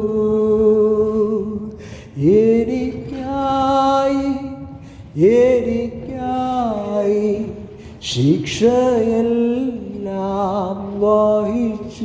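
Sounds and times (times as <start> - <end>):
person singing a hymn: 0.0 - 12.0.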